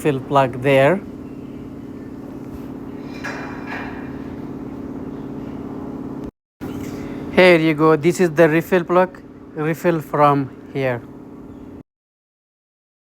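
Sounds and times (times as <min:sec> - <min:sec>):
low machine hum: 0:00.0 - 0:11.8.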